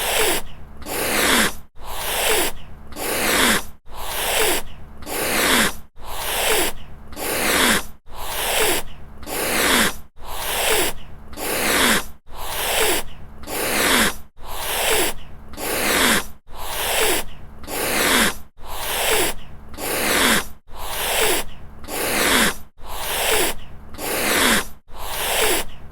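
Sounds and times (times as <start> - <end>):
cat hissing: 0.0 - 25.8.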